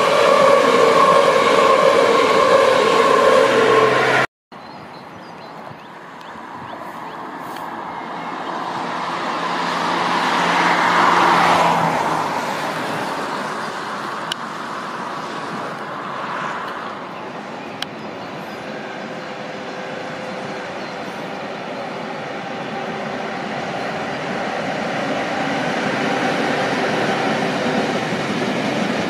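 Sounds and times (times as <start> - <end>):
road vehicle passing: 0.0 - 4.3, 6.0 - 29.0
freight train rumbling: 0.0 - 29.0.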